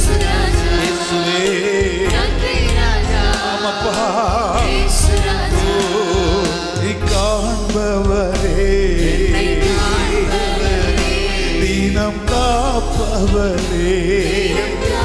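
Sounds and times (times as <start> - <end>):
electronic keyboard with steady beat: 0.0 - 15.0
man singing lead with vibrato: 0.0 - 15.0.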